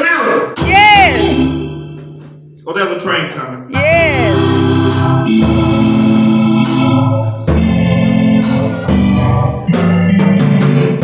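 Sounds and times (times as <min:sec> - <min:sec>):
organ playing gospel chords: 0:00.6 - 0:11.0
sharp percussion hits: 0:00.6 - 0:11.0.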